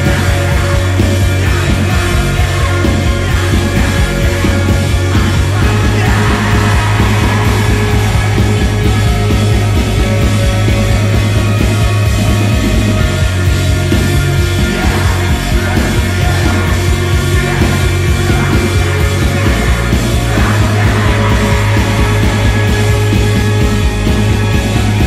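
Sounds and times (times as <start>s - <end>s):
loud rock music: 0.0s - 25.0s.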